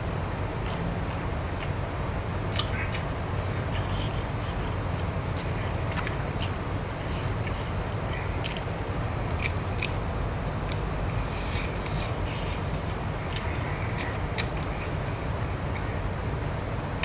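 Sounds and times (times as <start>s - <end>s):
person chewing food: 0.0s - 1.8s, 2.5s - 16.1s
low hum: 0.0s - 17.0s.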